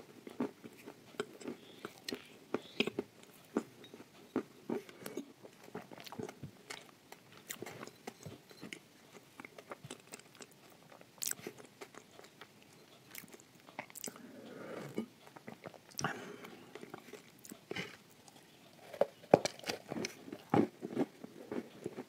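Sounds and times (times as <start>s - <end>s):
chewing crunchy shortbread: 0.0s - 22.0s.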